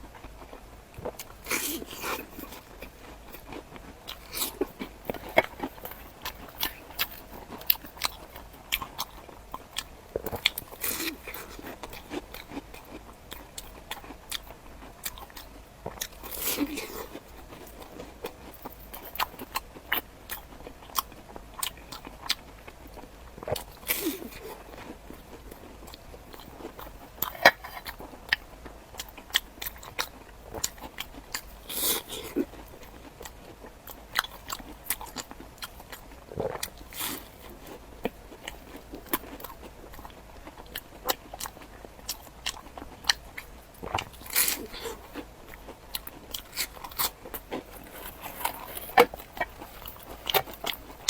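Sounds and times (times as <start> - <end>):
chewing crunchy food: 0.0 - 51.0.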